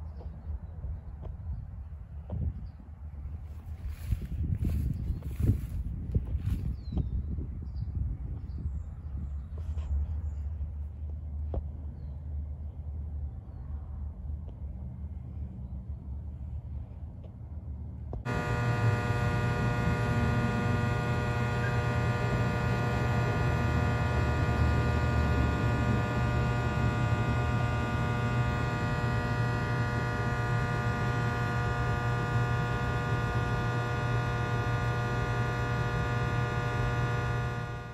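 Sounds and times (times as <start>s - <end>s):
electrical hum with buzzing: 0.0s - 37.9s.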